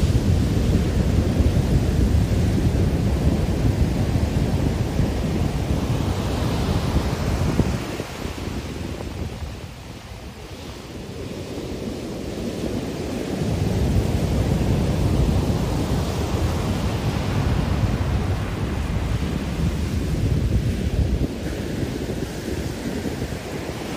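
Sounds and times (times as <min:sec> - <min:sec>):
ocean surf breaking on beach: 0:00.0 - 0:23.9
wind buffeting microphone: 0:00.0 - 0:23.9.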